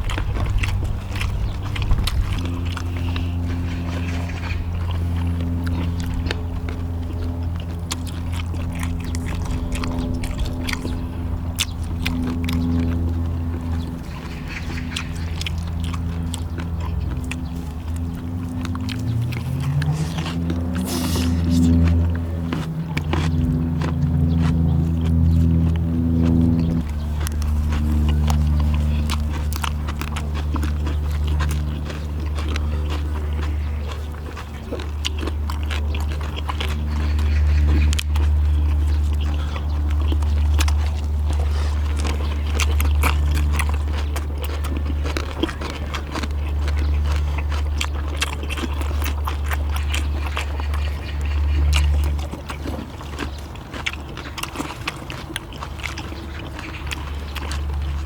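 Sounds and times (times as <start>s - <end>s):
chewing and biting: 0.0s - 58.0s
low hum: 0.0s - 58.0s.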